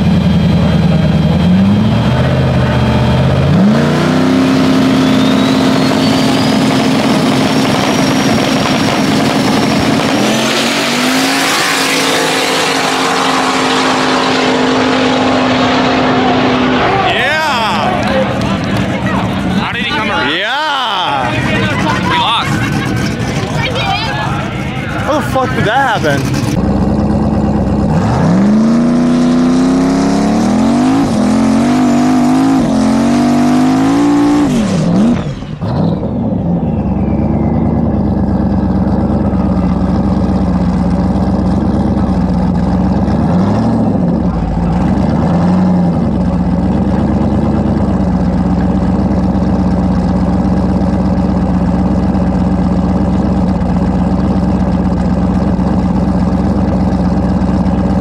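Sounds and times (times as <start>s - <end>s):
race engine idling: 0.0s - 29.3s, 34.7s - 58.0s
car engine at full throttle: 0.0s - 58.0s
engine throttle blips: 0.0s - 58.0s.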